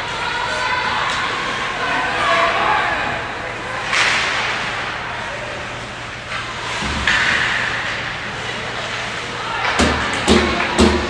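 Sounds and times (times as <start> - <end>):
low hum of rink: 0.0 - 11.0.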